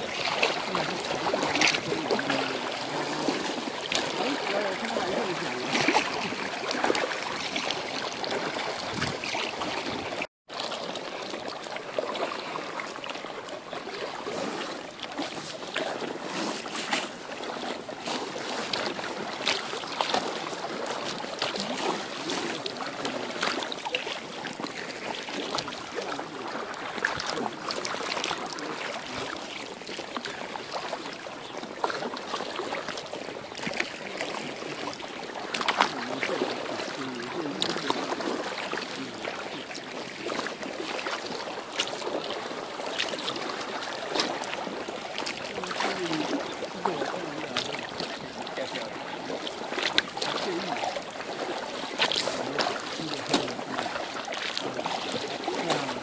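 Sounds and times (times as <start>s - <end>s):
paddles splashing in water: 0.0s - 56.0s
water lapping against hull: 0.0s - 56.0s.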